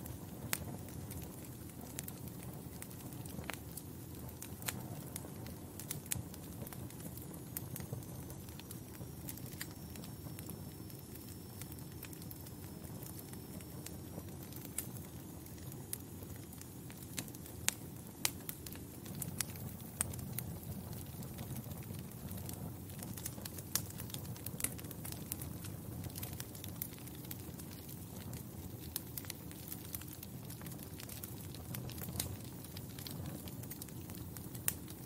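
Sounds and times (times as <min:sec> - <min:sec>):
fire crackling with pops: 0:00.0 - 0:35.0.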